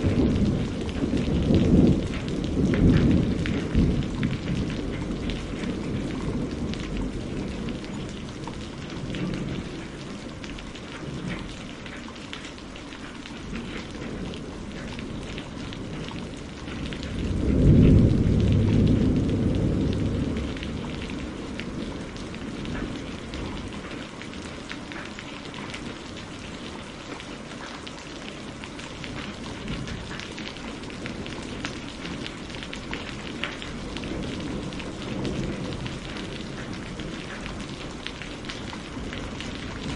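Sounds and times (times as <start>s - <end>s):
thunder rumbling: 0.0s - 12.1s, 13.3s - 27.2s, 28.2s - 39.9s
steady rain: 0.0s - 39.9s.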